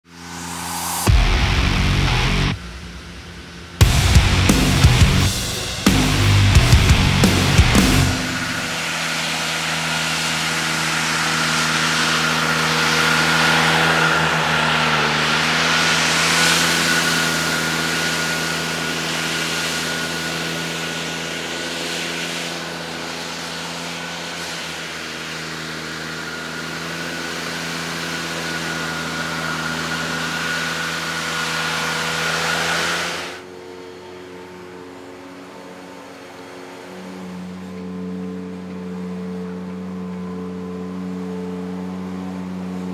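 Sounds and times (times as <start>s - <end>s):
engine hum: 0.0s - 42.9s
high whine: 0.0s - 42.9s
leaf blower air rush: 0.0s - 42.9s.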